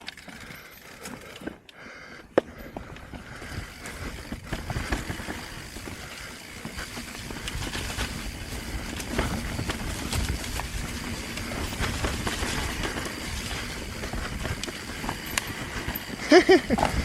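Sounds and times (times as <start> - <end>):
bike tyres on rocky dirt trail: 0.0 - 17.0.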